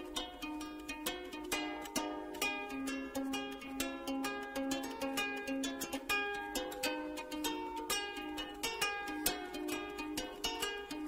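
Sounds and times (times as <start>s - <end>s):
ukulele tune: 0.0s - 11.0s.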